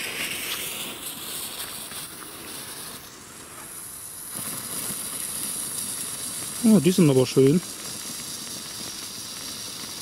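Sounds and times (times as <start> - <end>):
faint crackles: 0.0 - 10.0
firework hissing and fizzing: 0.0 - 10.0.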